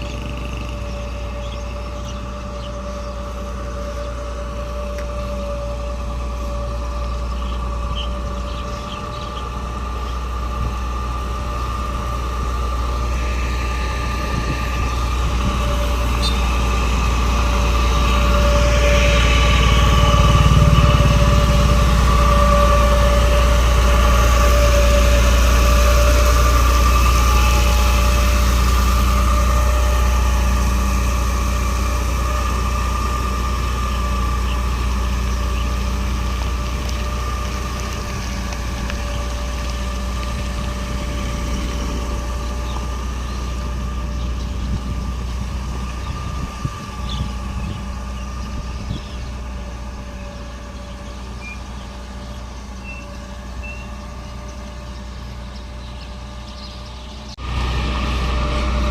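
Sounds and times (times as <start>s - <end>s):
engine whine: 0.0s - 58.9s
truck diesel engine running: 0.0s - 58.9s.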